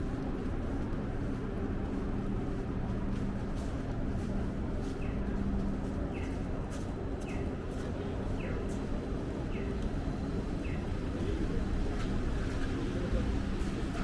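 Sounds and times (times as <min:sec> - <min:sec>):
low city rumble: 0:00.0 - 0:14.0.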